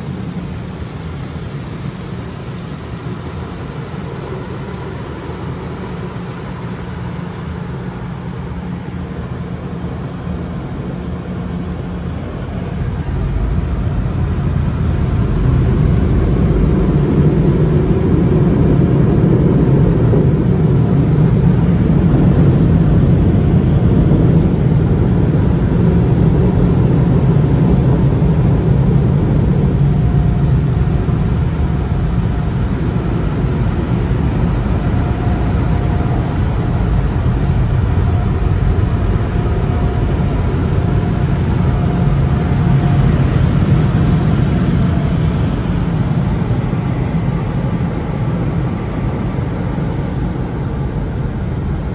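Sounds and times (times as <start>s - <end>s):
dryer blowers rushing air: 0.0s - 51.9s.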